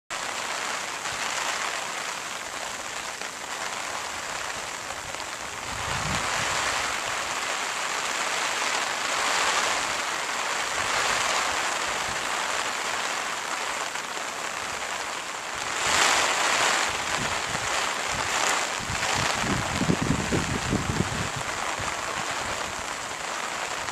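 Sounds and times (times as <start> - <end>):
steady watery hiss: 0.1 - 23.9.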